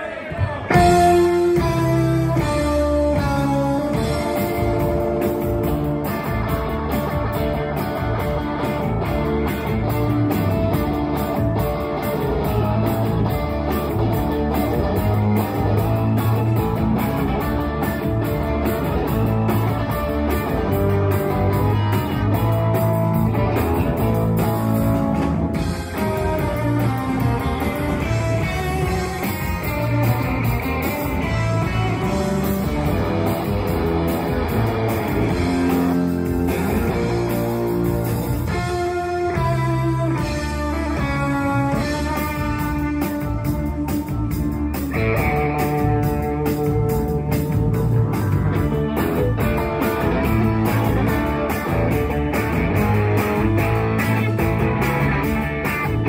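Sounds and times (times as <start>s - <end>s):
drum kit: 0.0s - 56.0s
electric bass: 0.6s - 56.0s
electric guitar: 0.6s - 56.0s.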